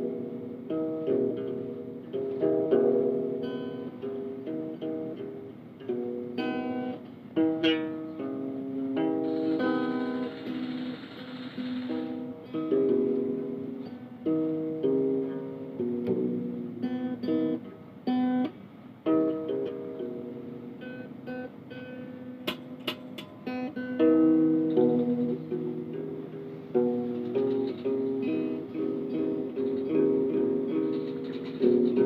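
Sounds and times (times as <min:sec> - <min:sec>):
guitar plucked and strummed: 0:00.0 - 0:32.0.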